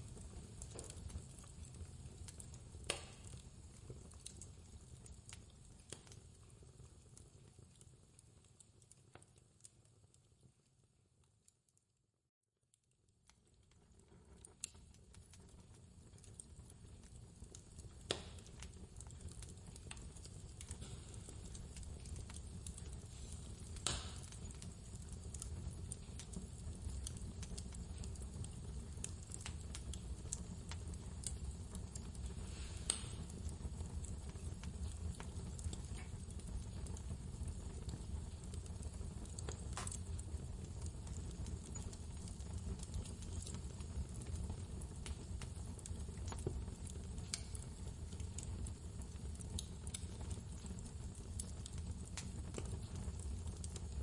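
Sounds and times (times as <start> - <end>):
wood fire crackling: 0.0 - 11.8, 12.7 - 54.0.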